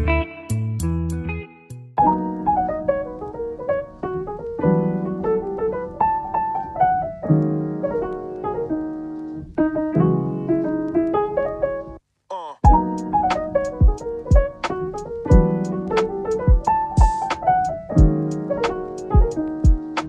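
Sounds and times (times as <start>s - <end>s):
piano music: 0.0s - 12.0s, 12.6s - 20.0s.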